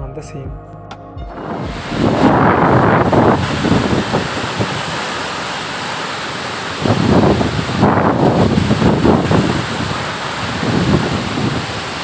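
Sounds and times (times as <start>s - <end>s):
wind buffeting microphone: 1.3s - 12.0s
waterfall rushing: 1.4s - 12.0s.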